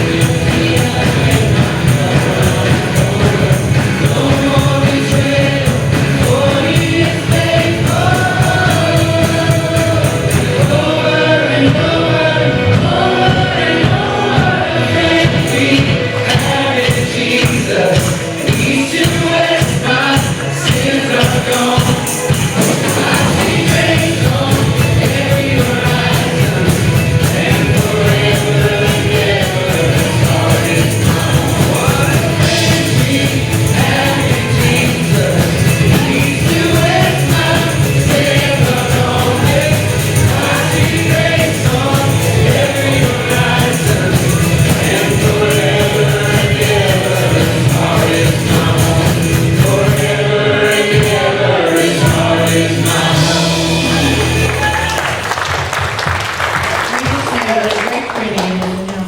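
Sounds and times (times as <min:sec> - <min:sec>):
tambourine: 0:00.0 - 0:11.1, 0:14.8 - 0:57.0
choir singing with band: 0:00.0 - 0:59.0.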